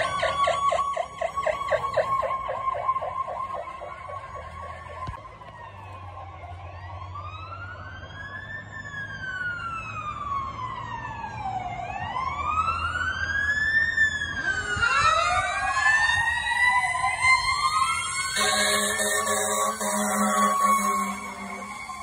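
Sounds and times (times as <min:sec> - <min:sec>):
fire truck siren wailing: 0:00.0 - 0:22.0.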